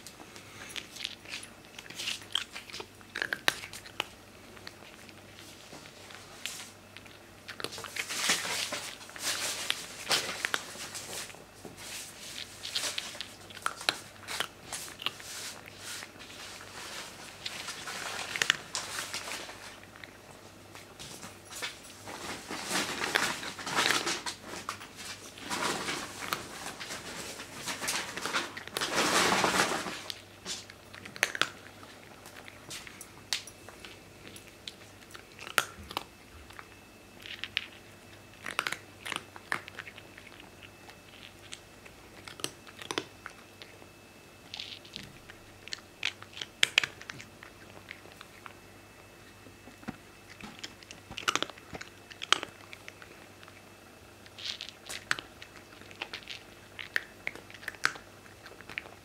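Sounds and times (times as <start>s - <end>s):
cat crunching dry kibble: 0.0s - 59.0s.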